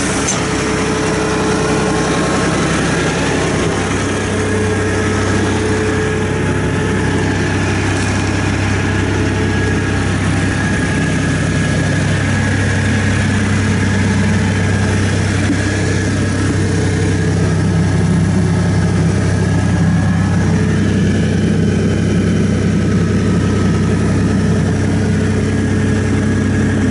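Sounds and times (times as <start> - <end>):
skid steer diesel engine running: 0.0 - 26.9.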